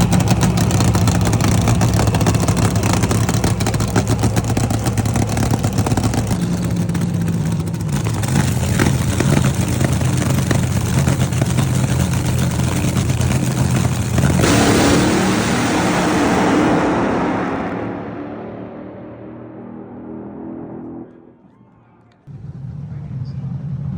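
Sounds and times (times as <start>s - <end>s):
vehicle engine running: 0.0s - 21.5s.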